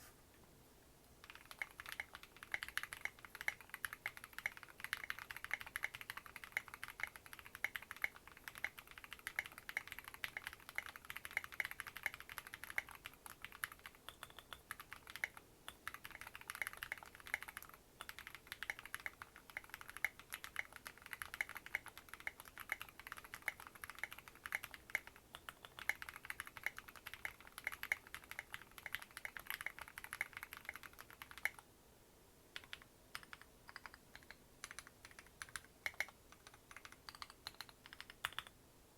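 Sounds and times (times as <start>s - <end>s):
typing on mechanical keyboard: 1.2s - 31.6s, 32.6s - 38.5s.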